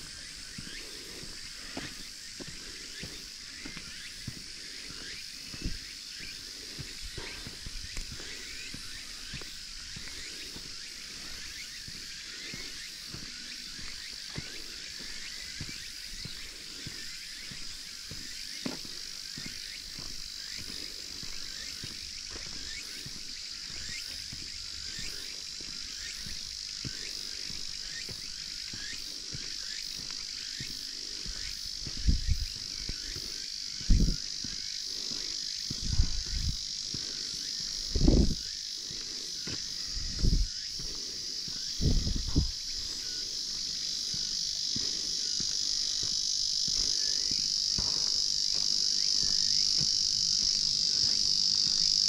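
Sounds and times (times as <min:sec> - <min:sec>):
chorus of insects: 0:00.0 - 0:52.0.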